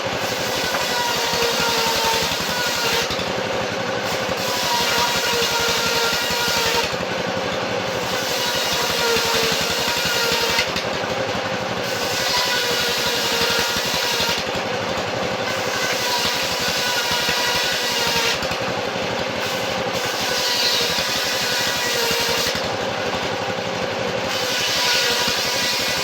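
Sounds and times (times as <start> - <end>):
sawmill motor hum pulsing: 0.0 - 26.0.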